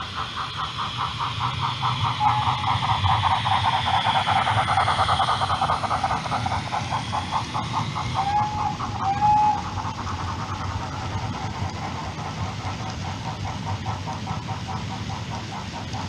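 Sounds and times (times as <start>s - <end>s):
low rumble of running train: 0.0s - 16.0s
model steam locomotive chuffing: 0.0s - 16.0s.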